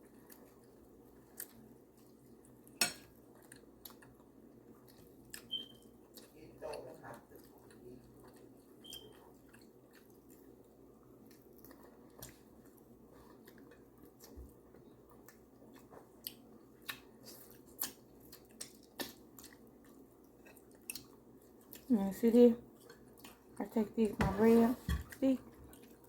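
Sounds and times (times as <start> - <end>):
chewing food: 0.0 - 26.0.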